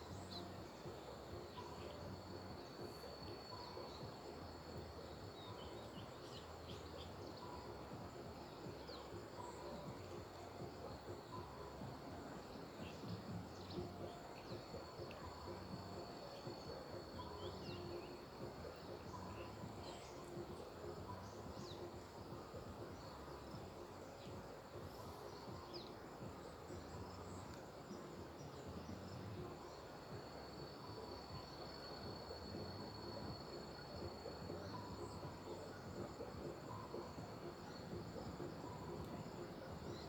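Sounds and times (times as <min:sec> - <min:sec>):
insect chirps: 0:00.0 - 0:40.0
insects droning: 0:00.0 - 0:40.0
low background hiss: 0:00.0 - 0:40.0.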